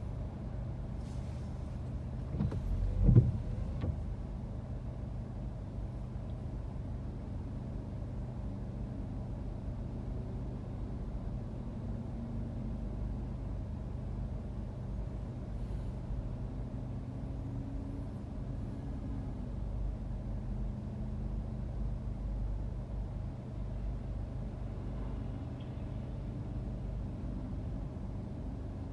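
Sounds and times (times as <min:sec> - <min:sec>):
city traffic rumble: 0:00.0 - 0:28.9.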